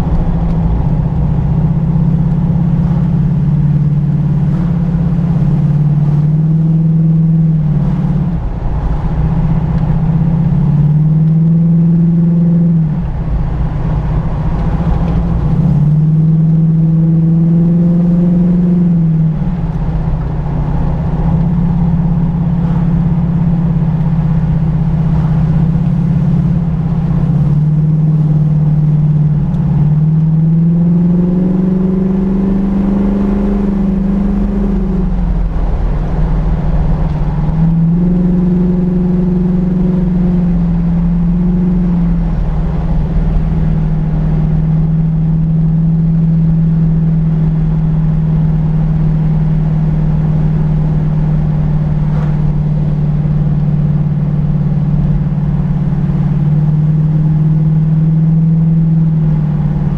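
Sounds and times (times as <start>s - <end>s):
car engine revving: 0.0s - 59.9s
road rumble: 0.0s - 59.9s.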